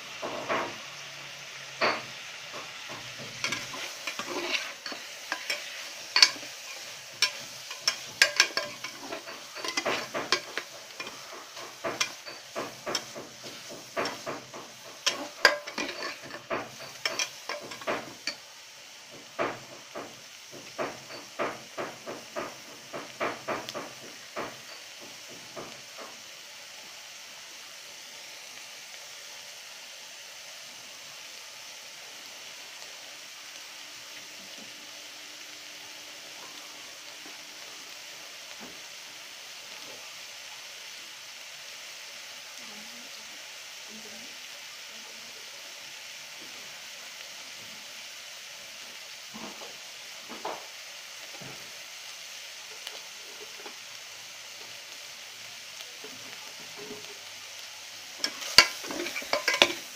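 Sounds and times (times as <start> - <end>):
meat sizzling in a pot: 0.0 - 59.9.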